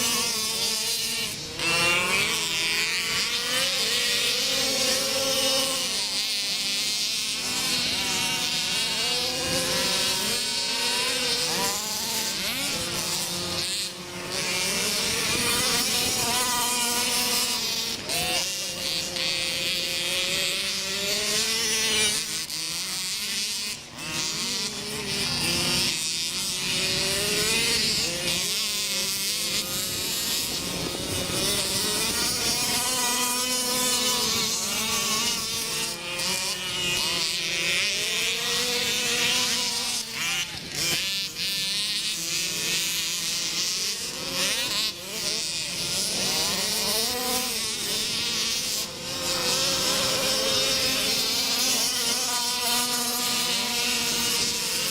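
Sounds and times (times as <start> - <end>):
off-road buggy engines racing: 0.0 - 54.9.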